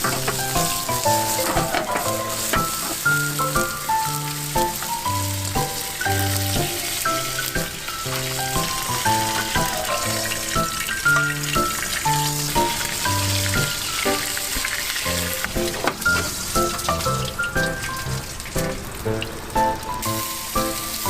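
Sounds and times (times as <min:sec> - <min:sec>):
bouncy background music: 0:00.0 - 0:21.0
food sizzling in a pan: 0:00.0 - 0:21.0.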